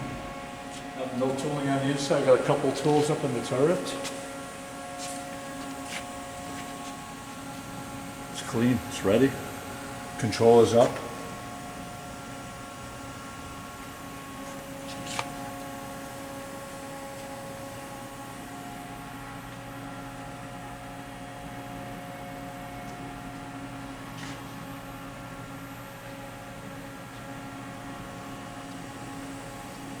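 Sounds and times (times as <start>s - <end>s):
machine electrical hum: 0.0s - 30.0s.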